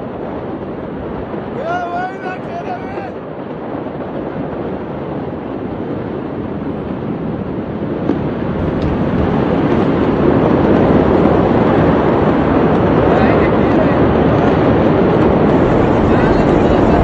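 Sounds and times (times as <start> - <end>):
distant city ambience: 0.0 - 17.0
wind: 0.0 - 17.0.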